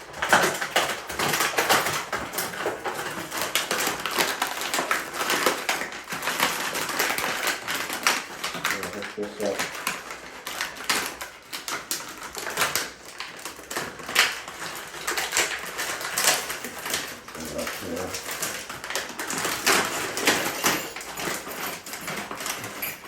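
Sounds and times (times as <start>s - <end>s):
lock parts clicking and rattling: 0.0s - 23.0s.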